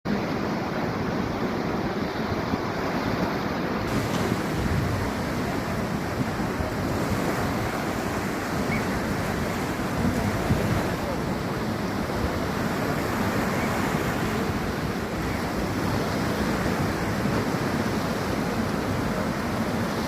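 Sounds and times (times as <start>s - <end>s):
surf washing onto beach: 0.1s - 20.0s
wind rumble on microphone: 0.1s - 20.0s.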